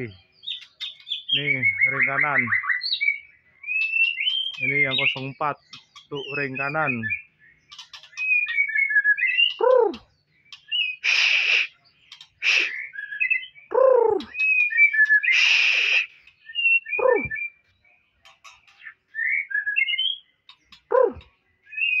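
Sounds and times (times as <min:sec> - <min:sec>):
bird chirps and trills: 0:00.0 - 0:22.0
harsh rasping bird calls: 0:00.0 - 0:22.0.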